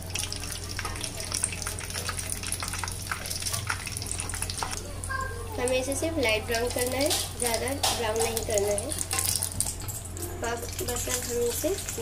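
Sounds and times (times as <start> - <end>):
pastry deep-frying in sizzling oil: 0.0 - 12.0.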